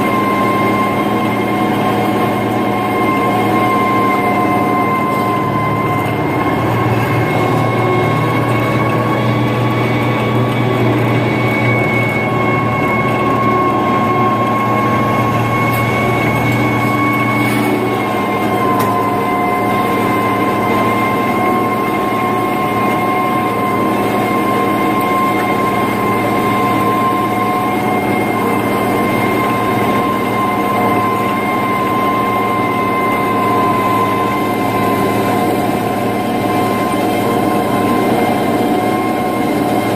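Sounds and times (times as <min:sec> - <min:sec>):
diesel tractor engine drone: 0:00.0 - 0:39.9
high whine: 0:00.0 - 0:39.9.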